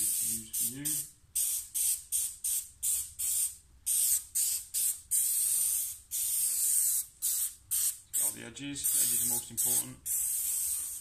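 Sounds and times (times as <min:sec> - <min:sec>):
spray gun hissing bursts: 0:00.0 - 0:11.0.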